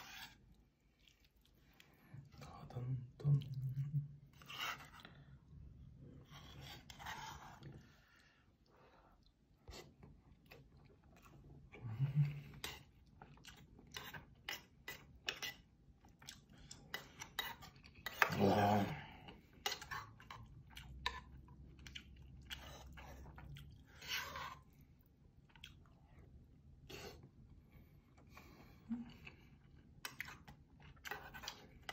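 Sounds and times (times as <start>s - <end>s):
person chewing food: 0.0s - 31.9s.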